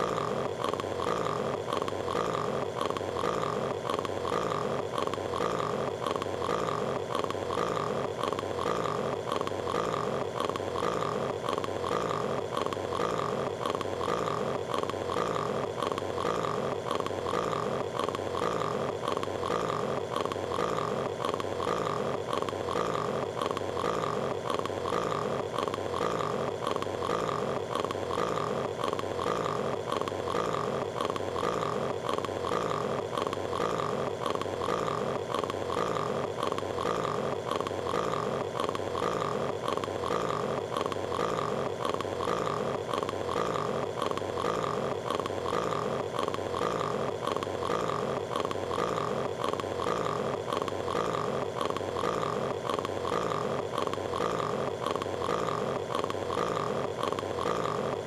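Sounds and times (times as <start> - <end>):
cartoon character guttural vocalizing: 0.0 - 58.0.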